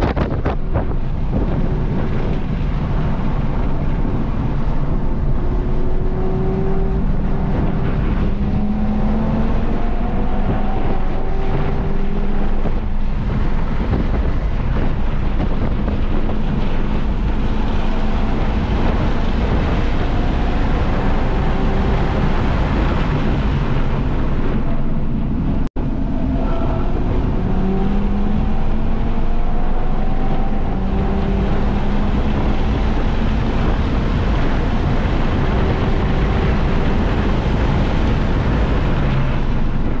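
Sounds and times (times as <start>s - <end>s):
car engine accelerating hard: 0.0s - 40.0s
wind buffeting on microphone: 0.0s - 40.0s.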